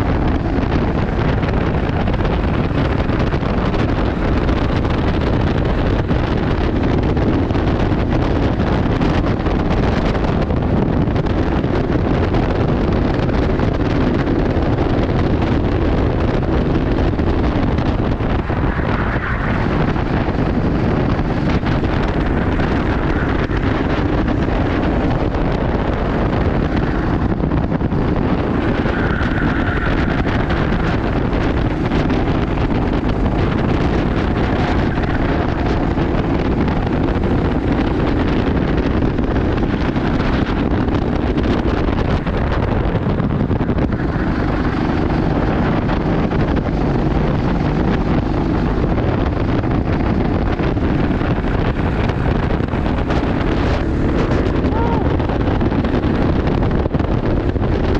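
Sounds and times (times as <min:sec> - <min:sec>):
kart engines droning: 0:00.0 - 0:57.9
wind rushing over microphone: 0:00.0 - 0:57.9.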